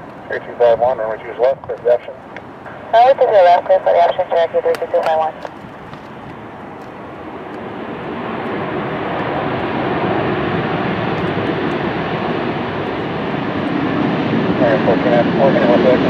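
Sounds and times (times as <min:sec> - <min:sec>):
jet airliner engines rushing: 0:00.0 - 0:16.0.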